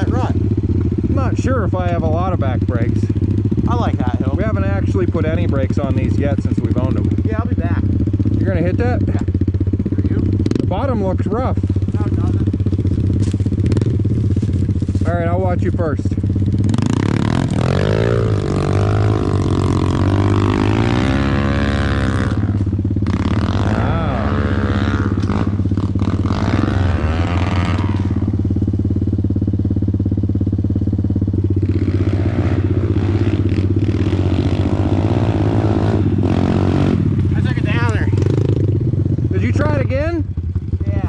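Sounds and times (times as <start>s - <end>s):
dirt bike engine idling: 0.0s - 41.0s
dirt bike revving: 0.0s - 41.0s.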